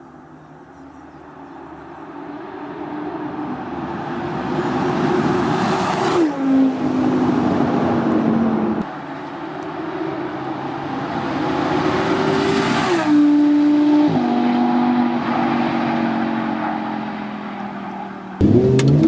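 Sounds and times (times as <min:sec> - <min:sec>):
sports car engine accelerating: 0:00.7 - 0:19.0.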